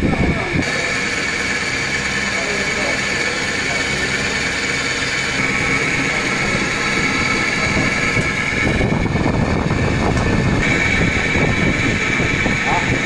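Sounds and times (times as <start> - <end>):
heavy low rumble: 0.0 - 13.0
high even whine: 0.0 - 13.0
machinery humming: 0.0 - 13.0.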